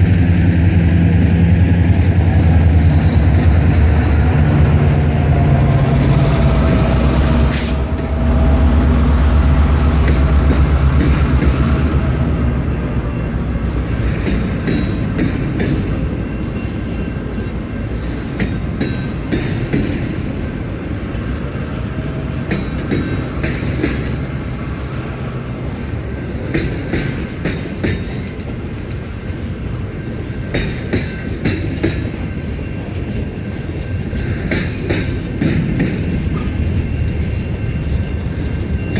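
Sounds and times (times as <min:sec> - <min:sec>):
diesel locomotive engines passing: 0:00.0 - 0:38.9.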